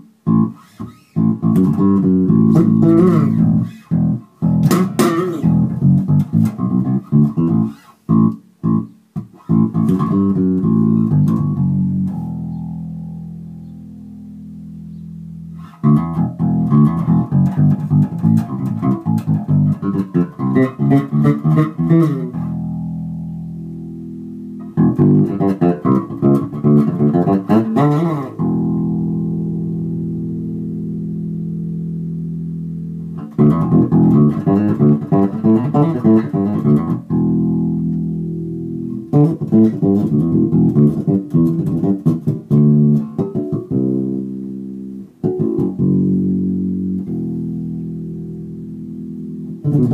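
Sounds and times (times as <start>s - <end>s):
electric bass plucked runs: 0.0s - 49.9s.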